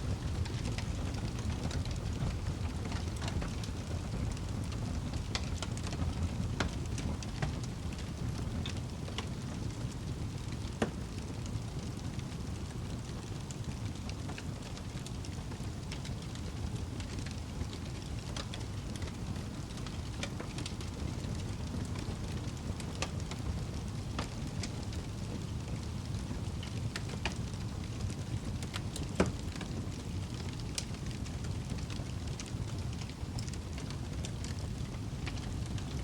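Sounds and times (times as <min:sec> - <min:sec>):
fire crackling and popping: 0:00.0 - 0:36.0
wood fire rumbling: 0:00.0 - 0:36.0.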